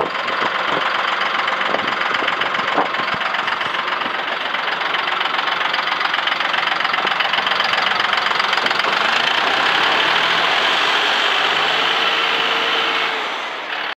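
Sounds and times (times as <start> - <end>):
diesel tractor engine idling: 0.0 - 14.0.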